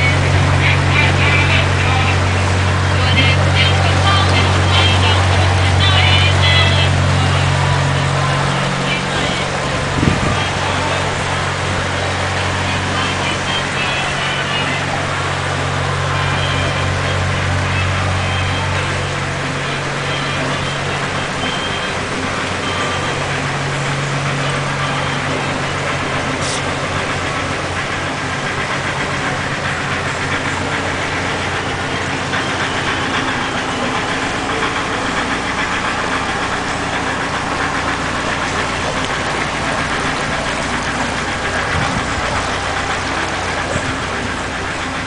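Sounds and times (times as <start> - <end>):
diesel engine ticking over: 0.0 - 45.0.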